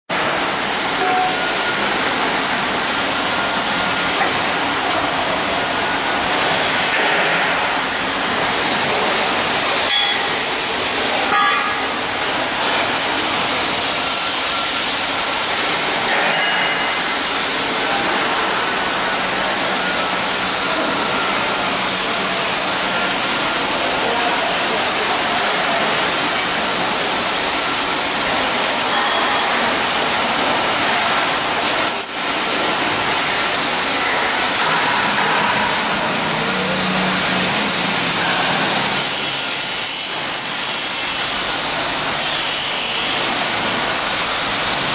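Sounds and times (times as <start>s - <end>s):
workshop machinery drone: 0.1s - 44.9s.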